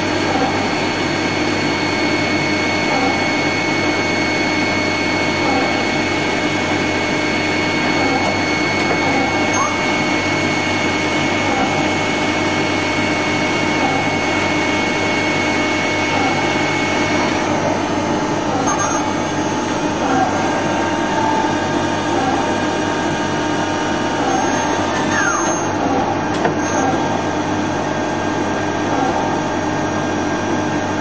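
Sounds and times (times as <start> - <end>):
high-pitched machine whine: 0.0 - 31.0
machine whirring: 0.0 - 31.0.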